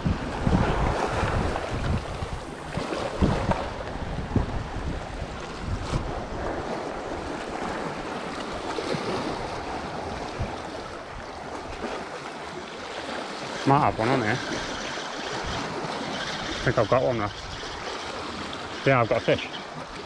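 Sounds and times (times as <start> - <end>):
wind buffeting microphone: 0.0 - 12.1, 13.8 - 20.0
sea waves washing against rocks: 0.0 - 20.0.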